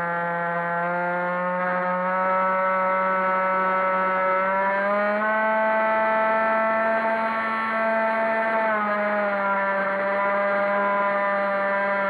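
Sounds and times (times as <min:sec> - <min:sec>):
electric motor and propeller whining: 0:00.0 - 0:12.0.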